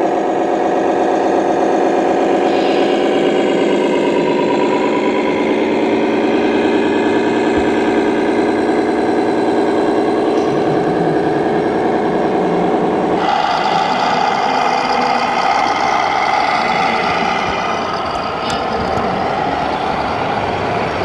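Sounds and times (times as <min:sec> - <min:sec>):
simulated diesel engine idling: 0:00.0 - 0:21.0.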